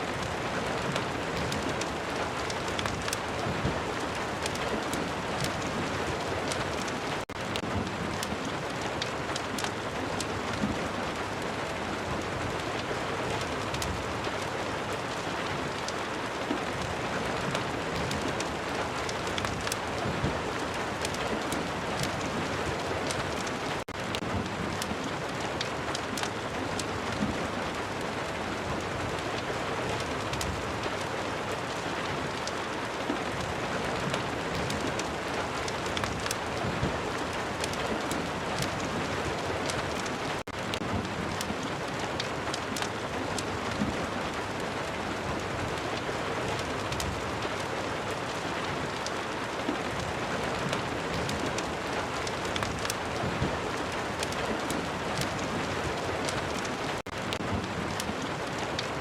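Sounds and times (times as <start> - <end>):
fireplace crackles: 0.0 - 59.0
steady rain hiss: 0.0 - 59.0.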